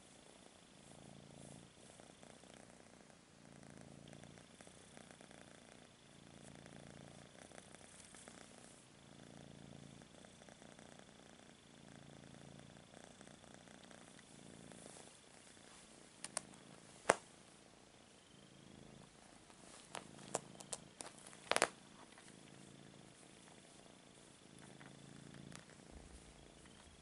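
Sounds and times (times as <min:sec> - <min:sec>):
kitten purring: 0:00.0 - 0:27.0.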